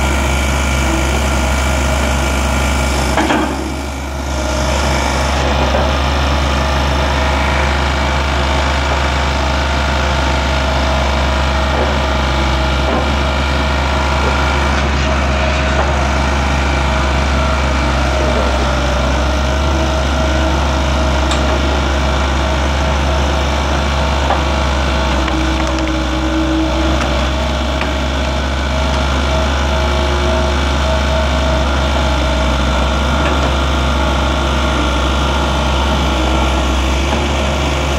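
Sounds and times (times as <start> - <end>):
skid steer engine running: 0.0 - 37.9.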